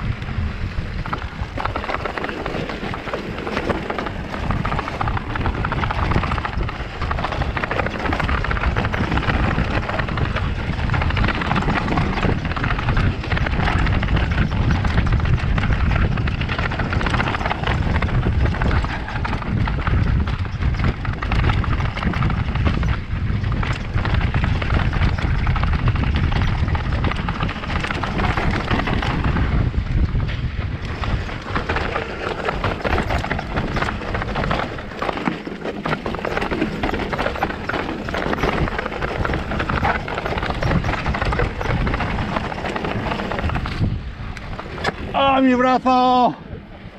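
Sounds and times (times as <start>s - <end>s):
mountain bike rattling: 0.0s - 46.9s
wind on microphone: 0.0s - 46.9s
tyres rolling over stones: 0.8s - 46.2s.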